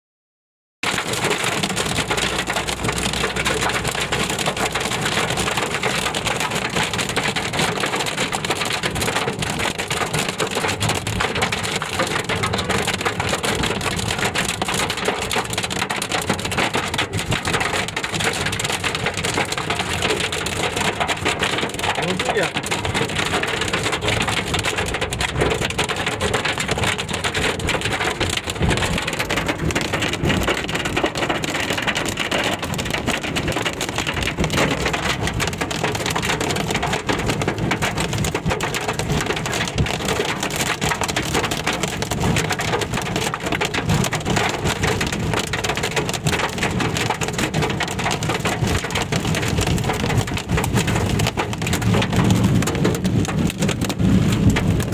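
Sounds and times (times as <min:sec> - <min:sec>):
hail and rain on car roof: 0:00.8 - 0:54.9.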